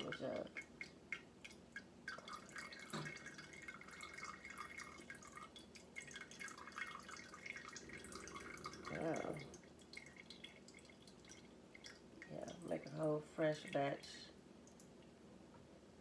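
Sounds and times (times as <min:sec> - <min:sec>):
oil dripping into container: 0:00.0 - 0:13.0.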